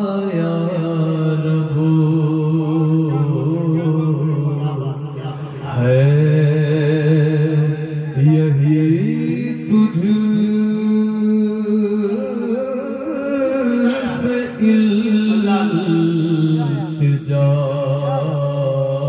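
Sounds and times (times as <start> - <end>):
man singing through a pa system: 0.0 - 19.0.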